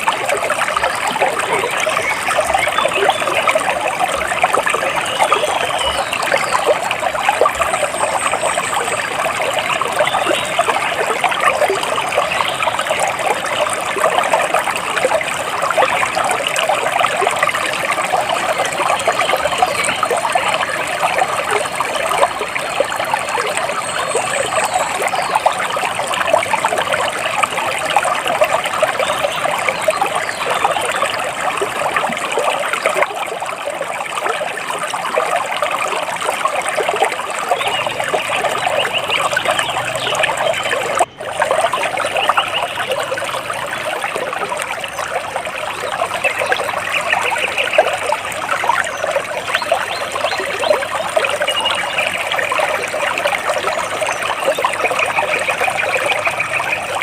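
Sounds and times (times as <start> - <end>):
water splashing and trickling: 0.0 - 57.0.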